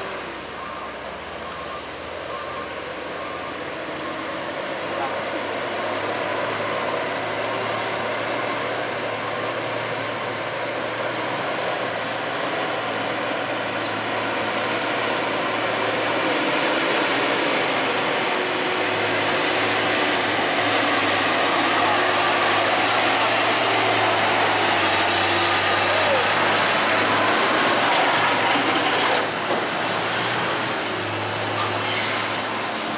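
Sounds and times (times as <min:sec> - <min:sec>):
heavy truck engine and road noise: 0:00.0 - 0:32.9.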